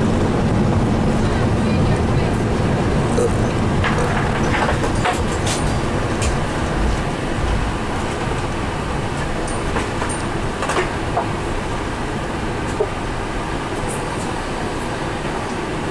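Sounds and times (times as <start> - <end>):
airplane cabin rumble: 0.0 - 15.9.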